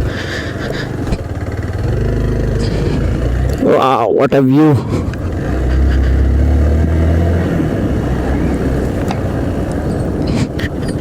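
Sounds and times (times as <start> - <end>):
continuous rushing noise: 0.0 - 11.0
motorcycle engine running: 0.0 - 11.0.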